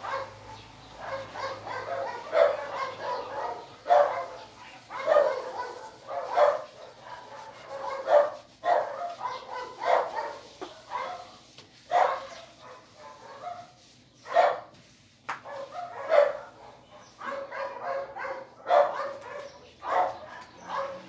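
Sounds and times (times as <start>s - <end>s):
dog barking: 0.0s - 14.7s, 15.4s - 21.0s.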